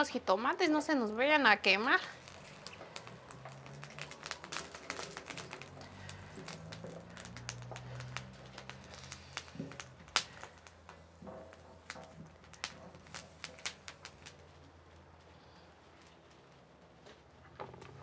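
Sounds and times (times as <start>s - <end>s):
wood fire crackling: 0.0s - 18.0s
sharp pops from fire: 1.6s - 16.5s.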